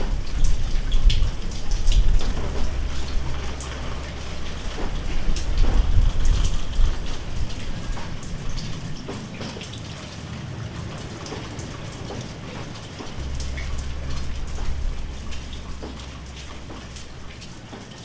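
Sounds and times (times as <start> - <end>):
low rumble: 0.0 - 9.2, 11.1 - 17.8
rain falling: 0.0 - 18.0
raindrops hitting a surface: 0.0 - 18.0.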